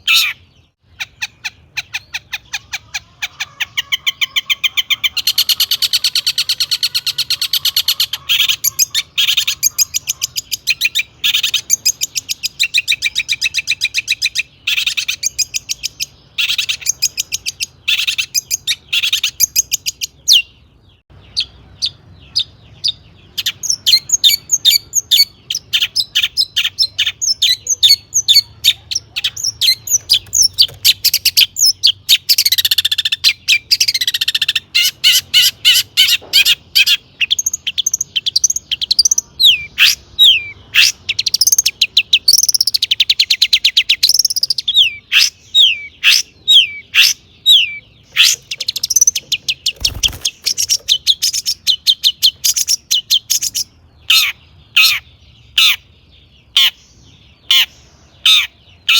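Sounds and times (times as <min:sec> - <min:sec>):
harsh buzzy bird phrases: 0:00.0 - 0:56.8
bird chattering song: 0:00.0 - 0:58.9.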